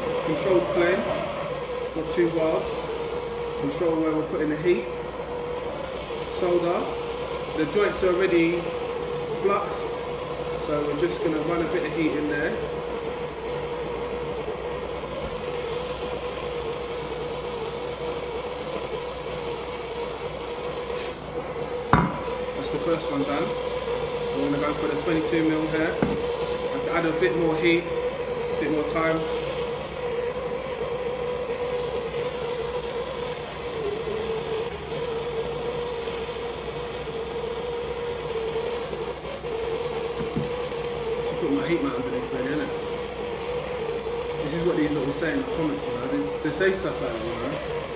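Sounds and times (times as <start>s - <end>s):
blowtorch flame hissing: 0.0s - 47.9s.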